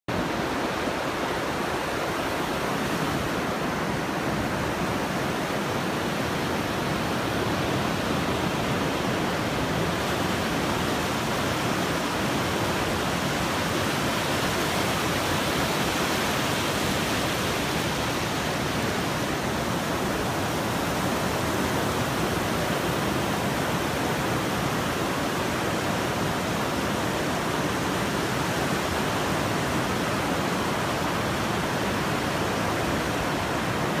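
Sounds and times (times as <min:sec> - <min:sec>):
ocean surf breaking on beach: 0:00.1 - 0:34.0.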